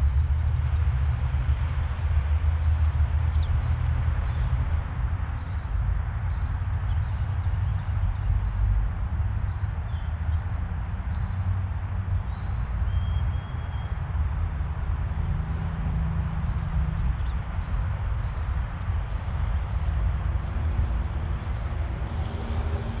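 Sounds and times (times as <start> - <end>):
small birds chirping: 1.8 - 21.8.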